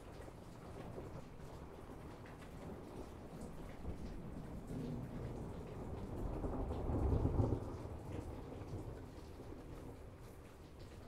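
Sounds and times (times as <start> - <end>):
raindrops ticking close by: 0.0 - 11.0
steady rain: 0.0 - 11.0
low rumble of thunder: 0.2 - 11.0.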